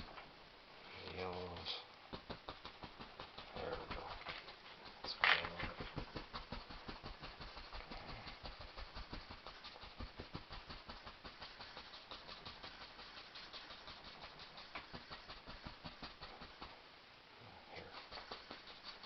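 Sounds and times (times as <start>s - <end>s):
paintbrush scrubbing on canvas: 0.8s - 16.8s, 17.8s - 19.0s.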